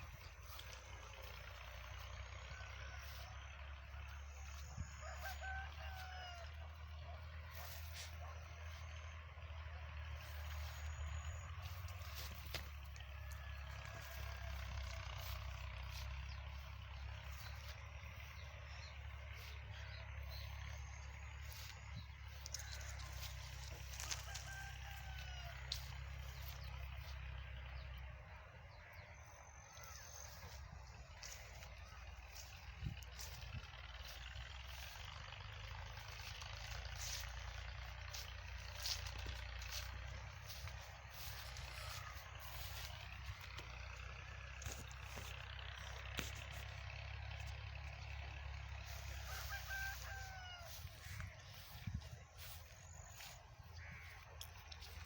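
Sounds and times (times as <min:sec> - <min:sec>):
low outdoor rumble: 0:00.0 - 0:55.0
small birds chirping: 0:00.0 - 0:55.0
rooster crowing: 0:00.3 - 0:08.9, 0:09.9 - 0:27.9, 0:35.7 - 0:46.3, 0:47.4 - 0:54.2.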